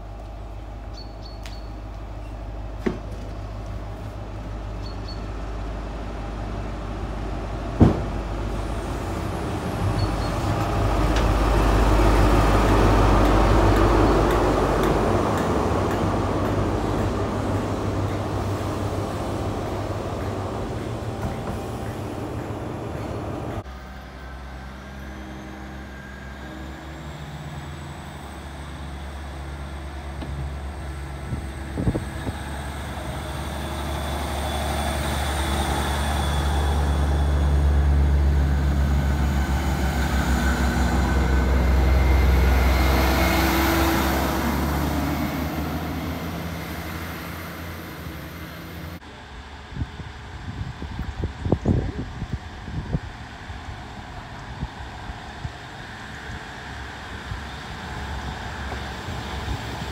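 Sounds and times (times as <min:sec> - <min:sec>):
train diesel engines droning: 0:00.0 - 0:59.9.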